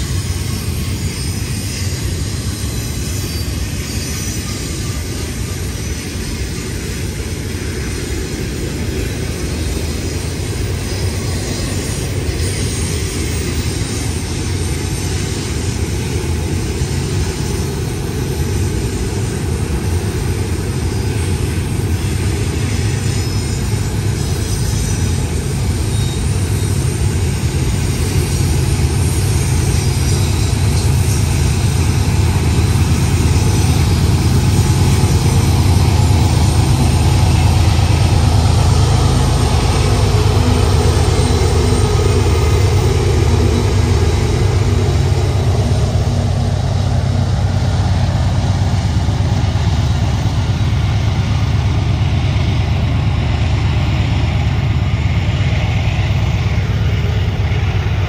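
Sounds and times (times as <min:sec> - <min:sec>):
diesel locomotives rumbling: 0:00.0 - 0:58.0.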